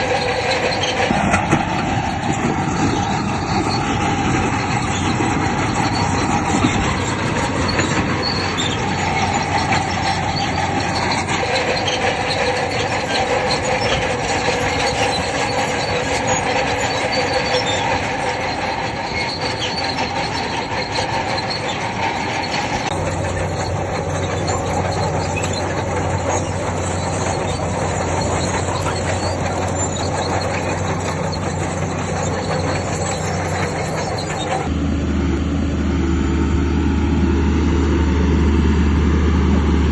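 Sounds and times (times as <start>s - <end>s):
steel tracks squealing and clattering: 0.0s - 34.7s
bulldozer diesel engine running: 0.0s - 39.9s.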